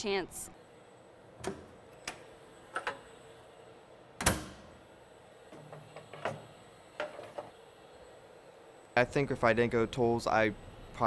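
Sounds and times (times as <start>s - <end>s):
faint steady machine hum: 0.0s - 11.0s.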